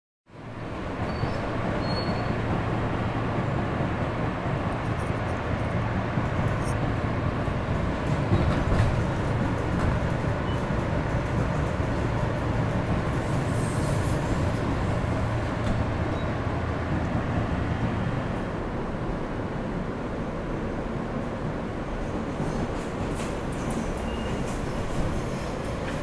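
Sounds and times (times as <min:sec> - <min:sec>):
train wheels rumbling on rails: 0:00.4 - 0:26.0.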